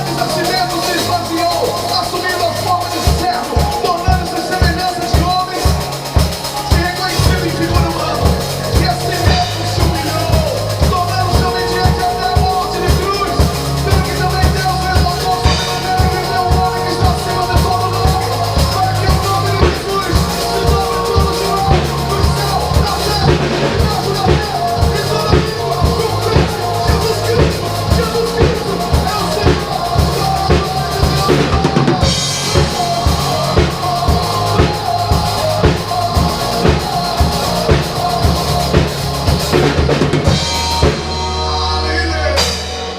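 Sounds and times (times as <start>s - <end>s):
drum kit beat with rimshots: 0.0s - 42.9s
recorded song: 0.0s - 42.9s.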